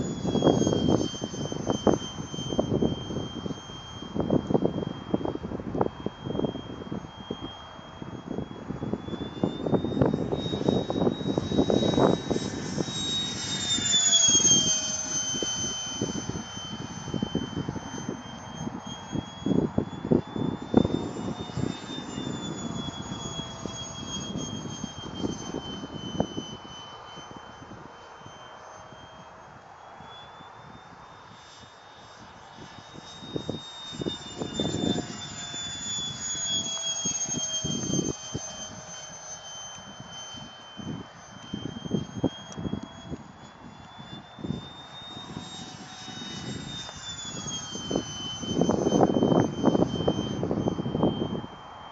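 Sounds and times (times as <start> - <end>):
wind buffeting microphone: 0.0 - 28.4, 32.2 - 39.0, 39.8 - 51.9
model jet fan whining: 0.0 - 51.9.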